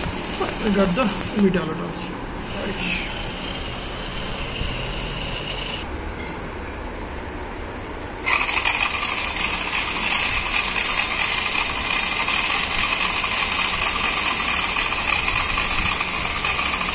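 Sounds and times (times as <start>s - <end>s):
small electric motors whirring: 0.0s - 1.6s, 2.4s - 5.9s, 8.2s - 16.9s.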